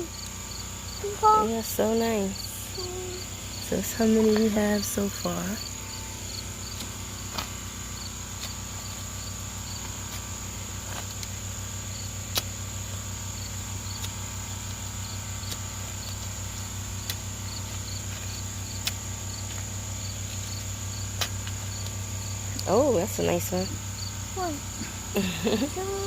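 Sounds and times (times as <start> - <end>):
insects chirping: 0.0 - 26.0
low steady hum: 0.0 - 26.0.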